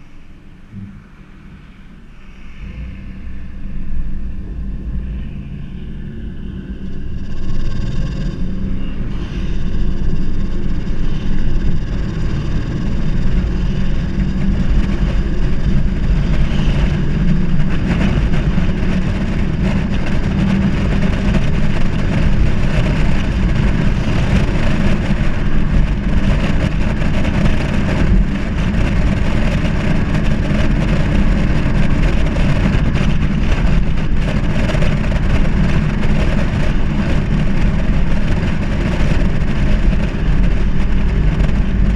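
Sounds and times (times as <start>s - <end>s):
car engine droning under load: 0.0s - 41.9s.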